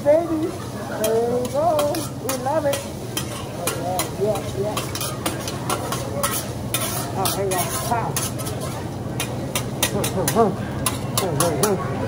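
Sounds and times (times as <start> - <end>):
food sizzling on a griddle: 0.0 - 11.8
metal spatulas clicking: 1.0 - 11.8.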